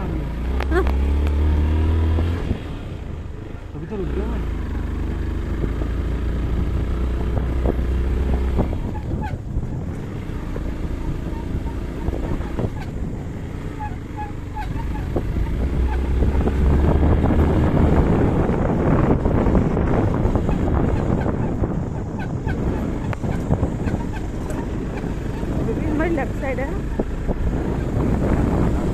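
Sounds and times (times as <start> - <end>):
motorcycle engine running: 0.0 - 28.9
motorcycle rattling over bumps: 0.0 - 28.9.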